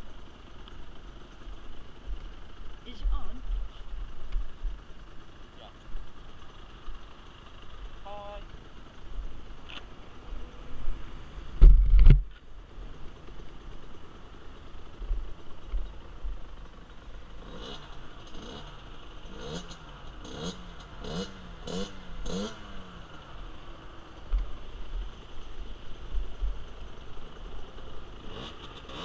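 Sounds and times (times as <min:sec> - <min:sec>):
small motorcycle engine blipping: 0:00.0 - 0:11.1, 0:11.8 - 0:29.0.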